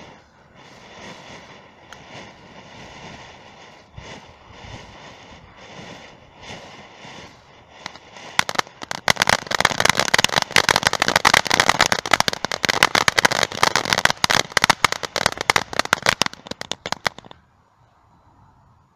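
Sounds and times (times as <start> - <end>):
firework fountain hissing and crackling: 0.0 - 17.7.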